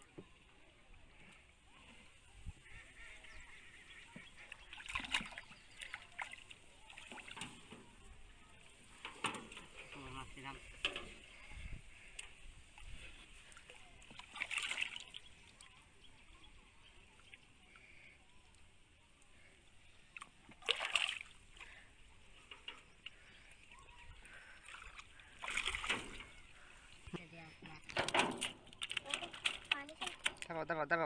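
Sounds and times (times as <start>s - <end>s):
water splashing: 0.0s - 30.6s.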